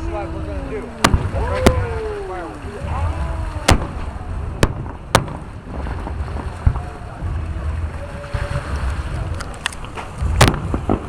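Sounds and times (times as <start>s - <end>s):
fireworks cracking: 0.0s - 11.0s
wind rumble on microphone: 0.0s - 11.0s
fireworks boom: 1.0s - 2.1s, 2.8s - 11.0s.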